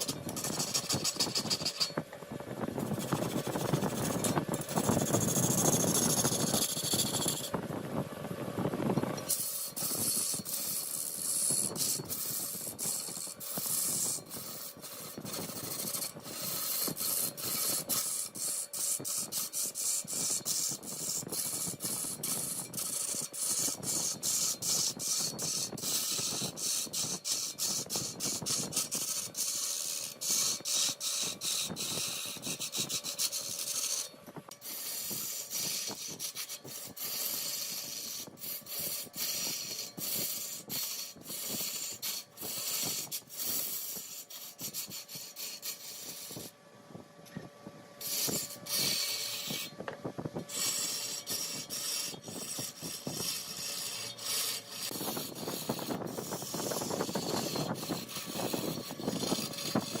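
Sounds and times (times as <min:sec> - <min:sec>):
rasping strokes on wood: 0:00.0 - 0:02.0, 0:02.8 - 0:07.6, 0:09.2 - 0:46.5, 0:48.0 - 0:49.8, 0:50.4 - 1:00.0.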